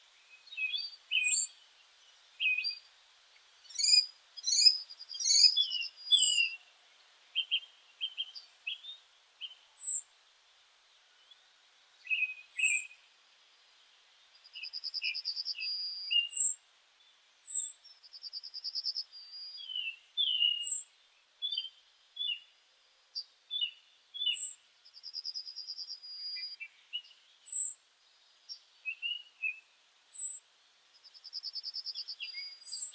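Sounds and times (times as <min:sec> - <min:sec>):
lower bird chirps: 0:00.2 - 0:02.9, 0:03.6 - 0:10.1, 0:11.2 - 0:13.1, 0:13.7 - 0:22.6, 0:23.2 - 0:32.9.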